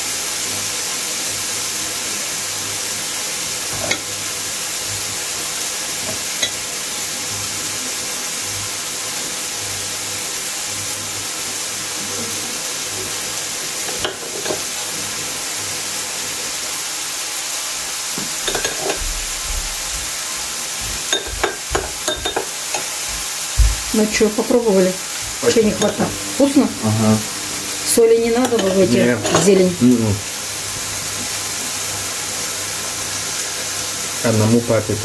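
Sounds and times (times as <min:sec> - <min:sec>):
tortillas frying in oil: 0:00.0 - 0:35.0.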